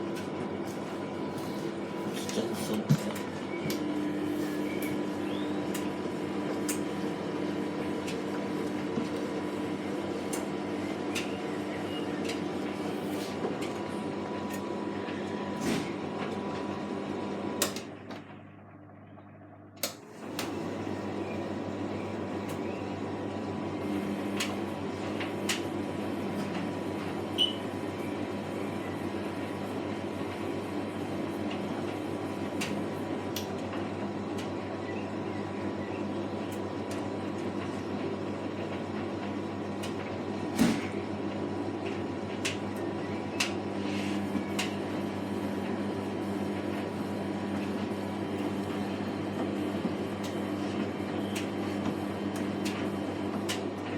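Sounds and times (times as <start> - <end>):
washing machine drum motor hum: 0.0 - 53.9.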